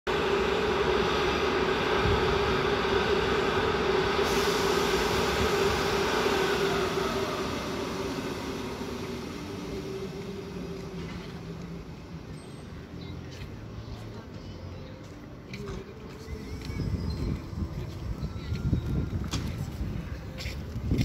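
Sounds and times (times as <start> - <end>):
electric locomotive humming: 0.1 - 15.1, 15.8 - 21.0.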